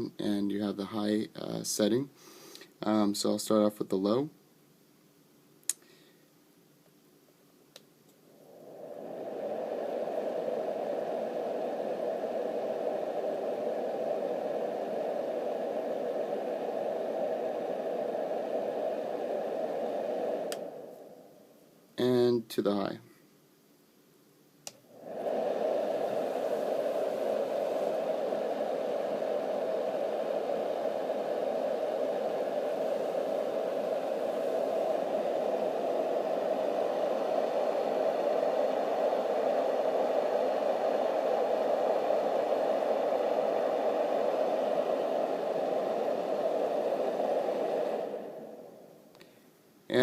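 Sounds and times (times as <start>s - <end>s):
white-noise machine fan rushing: 0.0s - 4.3s, 8.1s - 23.0s, 24.7s - 50.0s.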